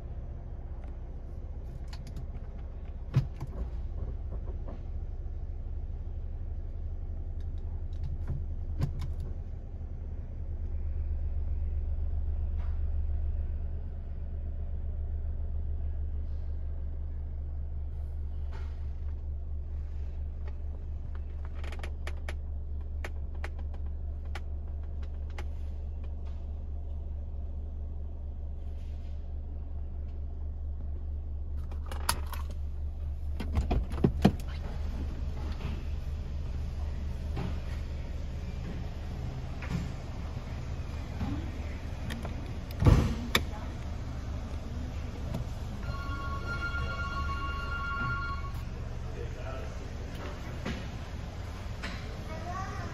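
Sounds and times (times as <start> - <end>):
car engine idling hum: 0.0 - 52.9.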